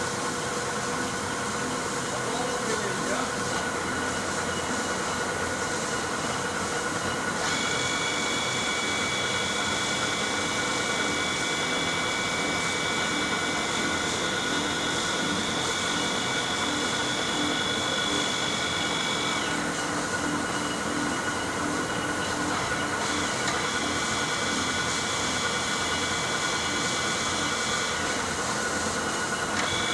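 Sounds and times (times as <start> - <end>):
high machine whine: 0.0 - 29.9
lathe hum: 0.1 - 29.9.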